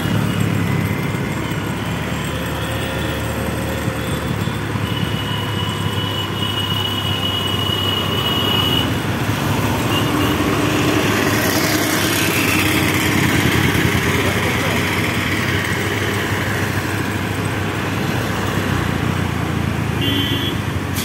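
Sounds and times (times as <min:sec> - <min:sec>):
road noise: 0:00.0 - 0:21.0
vehicle engine rumble: 0:00.0 - 0:21.0.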